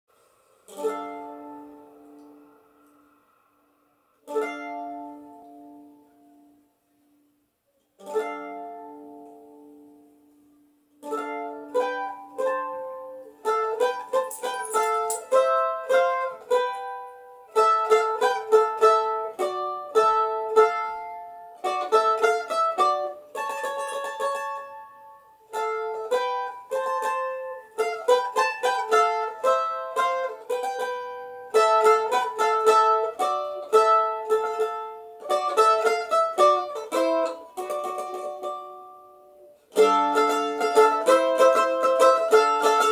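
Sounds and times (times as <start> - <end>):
mandolin played with a pick: 0.2 - 42.9.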